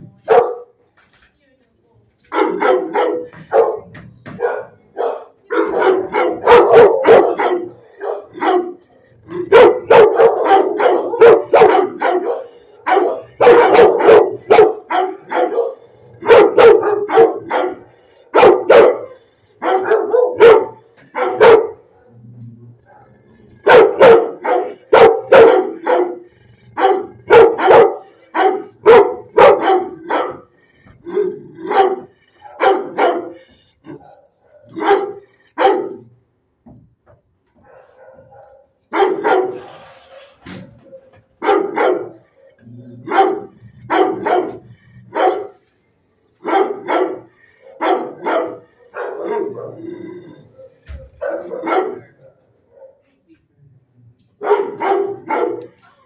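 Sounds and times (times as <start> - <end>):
dogs barking: 0.2 - 0.8, 2.3 - 36.2, 37.5 - 39.7, 40.5 - 53.2, 54.3 - 56.0.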